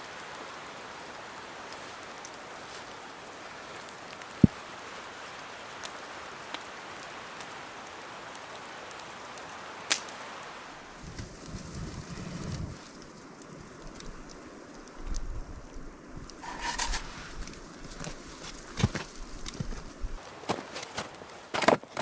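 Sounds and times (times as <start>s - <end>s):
campfire hissing and crackling: 0.0s - 21.6s.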